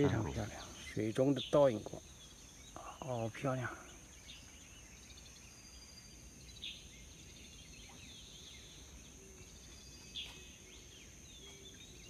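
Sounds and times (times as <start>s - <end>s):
high insect hum: 0.0s - 12.0s
small birds chirping and trilling: 0.0s - 12.0s.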